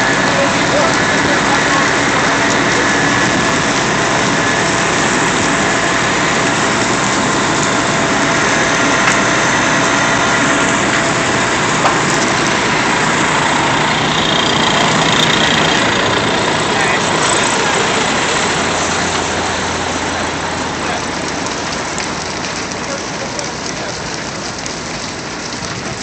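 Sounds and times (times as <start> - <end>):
fire engine running: 0.0 - 26.0
water gushing from a hose: 0.0 - 26.0.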